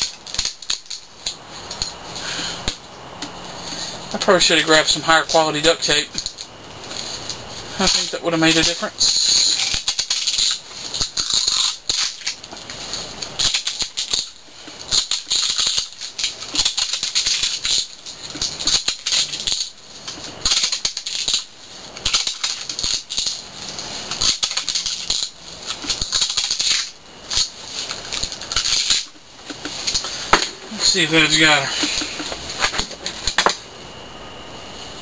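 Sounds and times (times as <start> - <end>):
duct tape pulled off roll: 0.0 - 2.8, 6.2 - 33.6.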